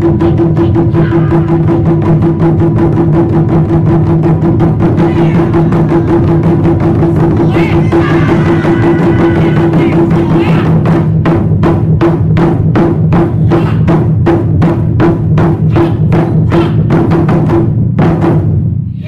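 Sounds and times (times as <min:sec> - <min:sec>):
taiko drums beaten in rhythm: 0:00.0 - 0:19.0.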